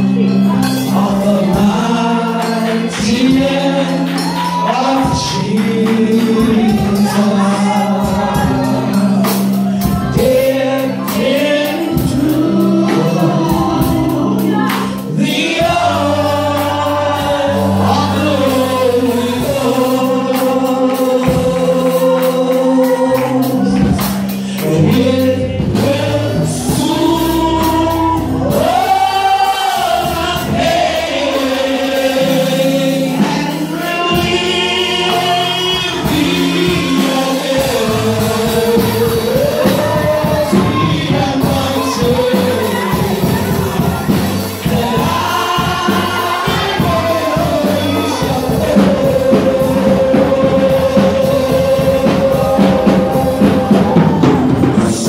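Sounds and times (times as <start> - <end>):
gospel band with drum kit: 0.0 - 55.0.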